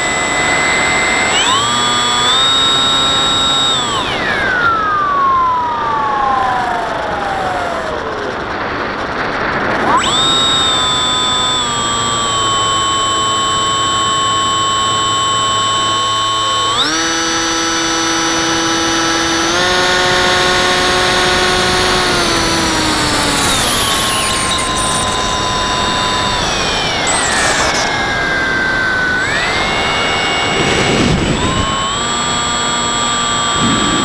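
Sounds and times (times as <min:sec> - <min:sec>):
model plane motor whine: 0:00.0 - 0:34.0.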